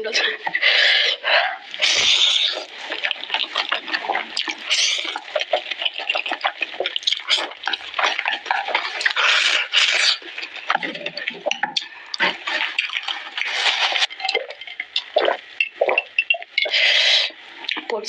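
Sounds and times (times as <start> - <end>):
noodle slurping: 0.0 - 17.9
wet chewing and smacking: 0.0 - 18.0.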